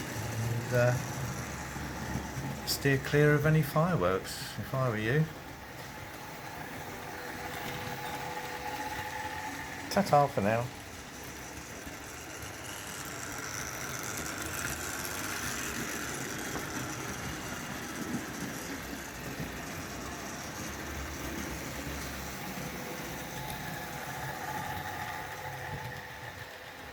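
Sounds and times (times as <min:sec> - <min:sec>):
model train motor whirring: 0:00.0 - 0:26.9
wheels rattling on rail: 0:00.0 - 0:26.9.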